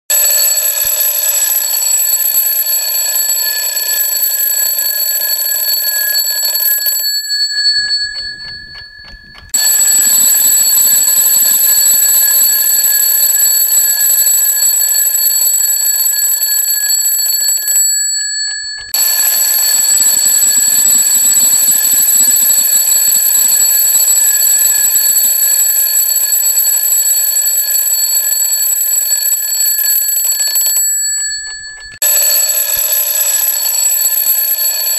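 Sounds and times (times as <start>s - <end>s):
alarm clock ringing: 0.1s - 34.9s.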